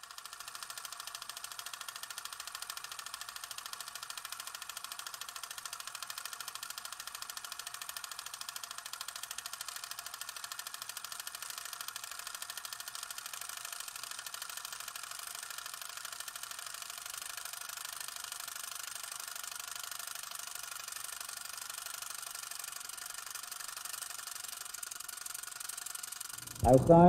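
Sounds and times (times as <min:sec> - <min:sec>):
fast mechanical clatter: 0:00.0 - 0:27.0.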